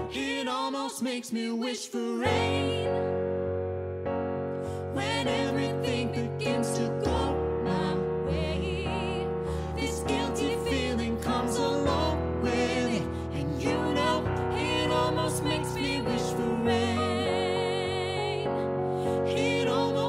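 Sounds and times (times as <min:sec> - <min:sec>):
piano accompaniment: 0:00.0 - 0:00.4, 0:02.3 - 0:20.0
woman and man singing: 0:00.0 - 0:02.9, 0:04.9 - 0:20.0.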